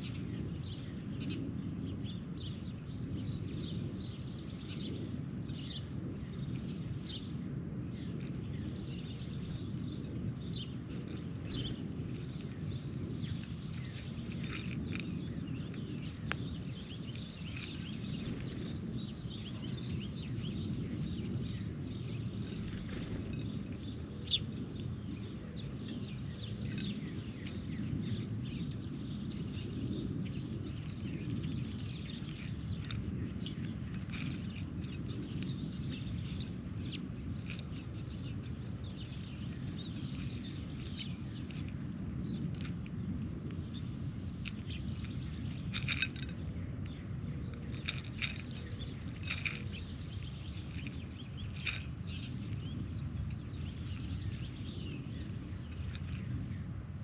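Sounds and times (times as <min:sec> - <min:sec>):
birds chirping: 0:00.0 - 0:57.0
steady low rumble: 0:00.0 - 0:57.0.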